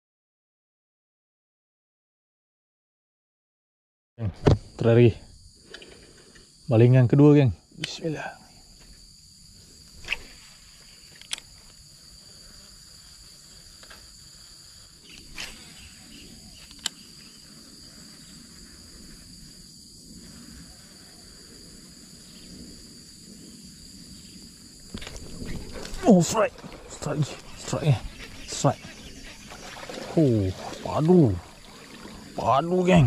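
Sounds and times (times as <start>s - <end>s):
high-pitched insect chorus: 4.6s - 33.0s.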